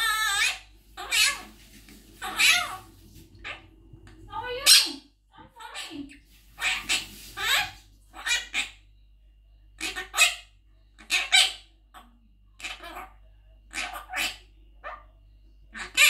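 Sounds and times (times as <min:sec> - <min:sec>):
parrot talking: 0:00.0 - 0:01.5, 0:02.2 - 0:03.6, 0:04.2 - 0:08.8, 0:09.8 - 0:15.1, 0:15.7 - 0:16.0.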